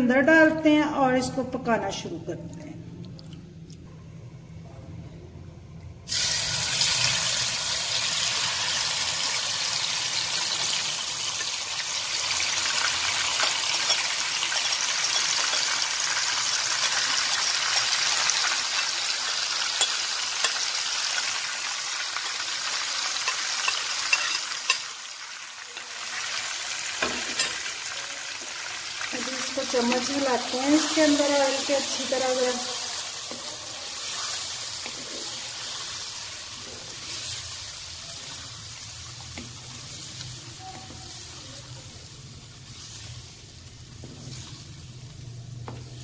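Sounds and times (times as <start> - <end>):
chicken sizzling in hot oil: 6.1 - 46.0.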